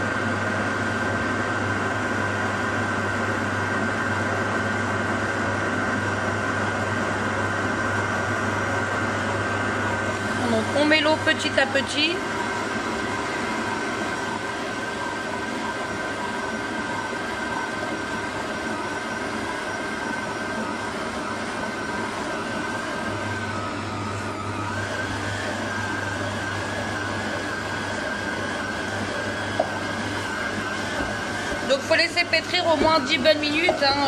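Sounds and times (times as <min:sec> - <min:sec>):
stand mixer motor whining: 0:00.0 - 0:34.0.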